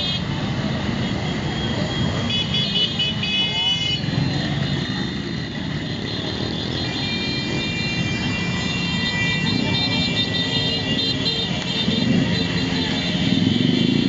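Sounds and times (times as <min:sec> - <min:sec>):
motorcycle engines running: 0:00.0 - 0:14.0.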